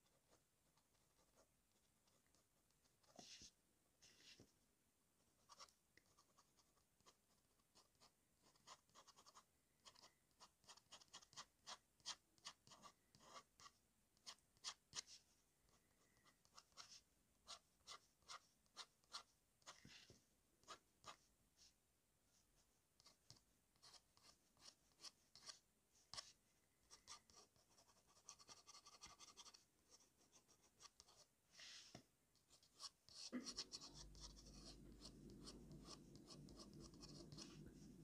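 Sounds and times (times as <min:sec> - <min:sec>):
fountain pen scratching on paper: 0:03.0 - 0:04.4, 0:05.4 - 0:15.2, 0:16.2 - 0:21.3, 0:23.0 - 0:31.9, 0:32.5 - 0:38.0.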